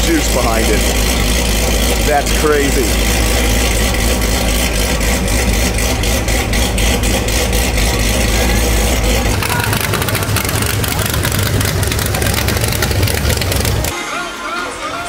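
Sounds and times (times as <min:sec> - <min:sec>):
car engine idling rough: 0:00.0 - 0:13.9.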